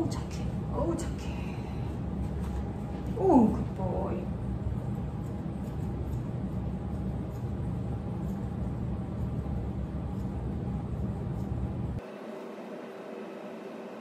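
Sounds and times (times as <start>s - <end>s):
low rumbling room noise: 0.0s - 14.0s
steady hum: 0.0s - 14.0s.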